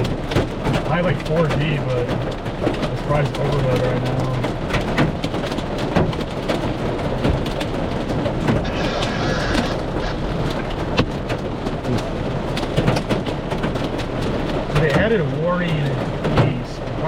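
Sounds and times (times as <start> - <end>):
hail impacts on a car: 0.0 - 17.0
heavy rain on a car: 0.0 - 17.0.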